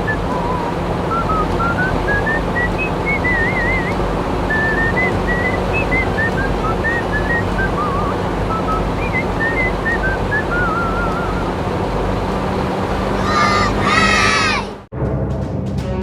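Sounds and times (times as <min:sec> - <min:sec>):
whistled tune: 0:00.0 - 0:14.6
steady hum and hiss: 0:00.0 - 0:14.9.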